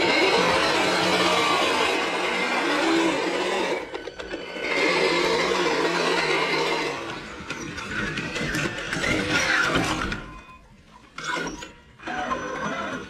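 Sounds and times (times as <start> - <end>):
electric motor whining: 0.0 - 10.5.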